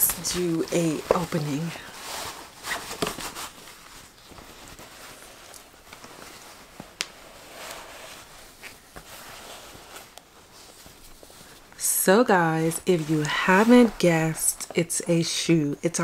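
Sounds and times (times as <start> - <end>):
cloth bag rustling: 0.0 - 15.0.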